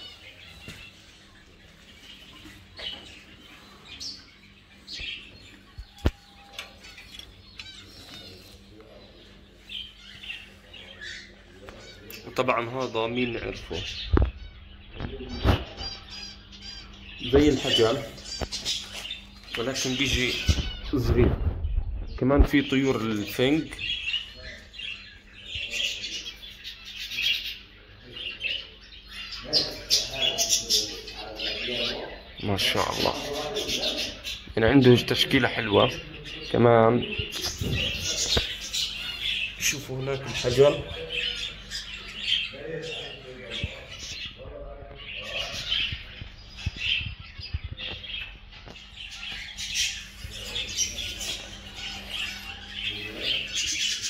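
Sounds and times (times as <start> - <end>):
finches chirping: 0.0 - 54.0.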